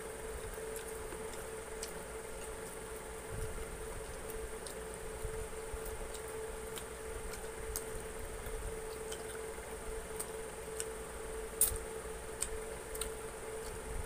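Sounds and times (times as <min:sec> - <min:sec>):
steady hum: 0:00.0 - 0:14.0
wet chewing and lip-smacking: 0:00.3 - 0:14.0.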